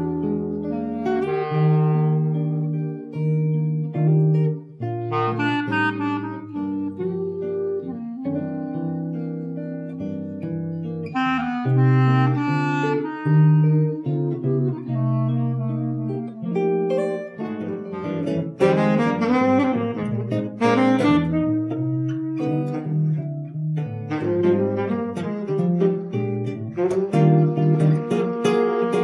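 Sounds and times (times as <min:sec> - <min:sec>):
clarinet melody: 0:00.0 - 0:29.0
jazz guitar chords: 0:00.0 - 0:29.0.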